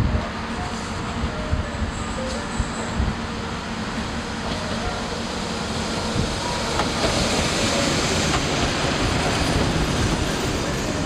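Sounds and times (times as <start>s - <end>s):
diesel train rumbling: 0.0s - 11.0s.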